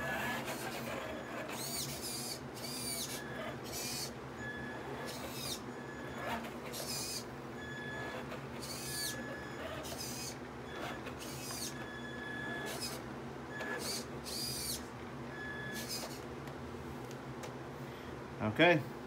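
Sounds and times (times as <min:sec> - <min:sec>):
toy truck motor whining: 0:00.0 - 0:16.3.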